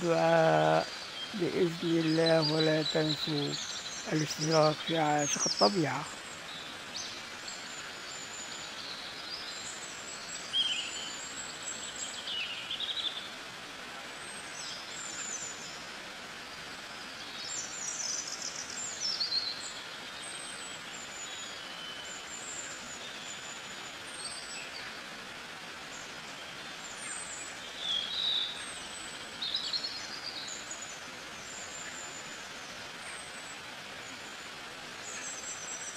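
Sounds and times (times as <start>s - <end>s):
outdoor hiss: 0.0s - 35.9s
songbirds chirping and trilling: 0.0s - 35.9s.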